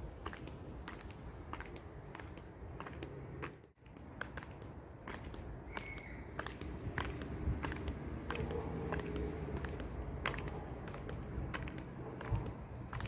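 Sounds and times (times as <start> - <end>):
high heels clicking on paving: 0.0 - 13.0.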